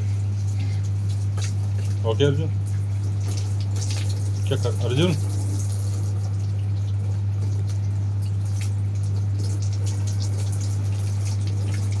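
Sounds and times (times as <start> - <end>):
garden hose water running: 0.0 - 12.0
small splashes and ticks: 0.4 - 12.0.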